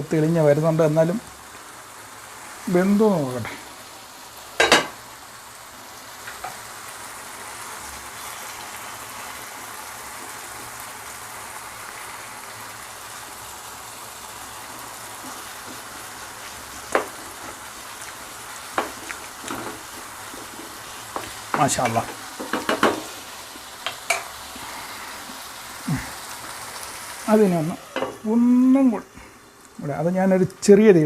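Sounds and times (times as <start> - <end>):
food sizzling in oil: 0.0 - 31.0.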